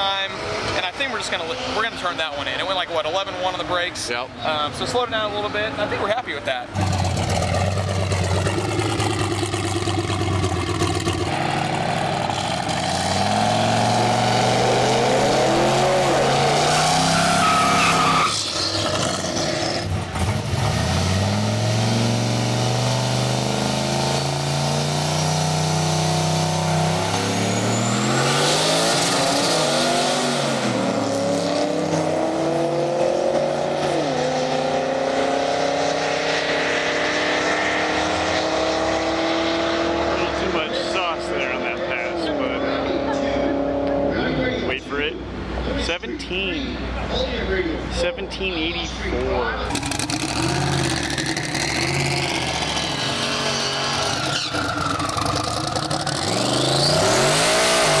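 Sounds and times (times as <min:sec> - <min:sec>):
drag racing engines at full throttle: 0:00.0 - 0:58.0.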